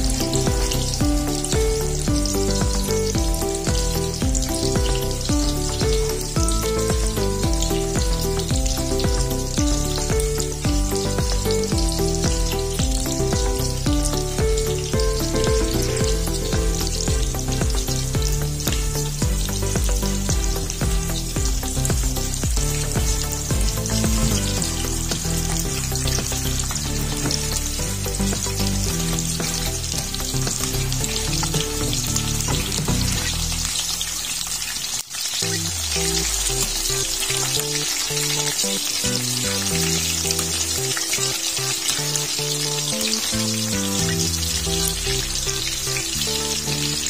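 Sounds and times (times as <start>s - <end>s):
background music: 0.0s - 47.0s
shrimp sizzling in hot oil: 0.0s - 47.0s.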